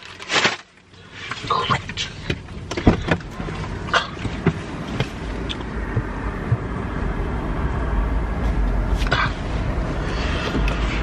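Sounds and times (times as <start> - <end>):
car rumble: 0.0 - 11.0
outdoor noise: 0.0 - 11.0.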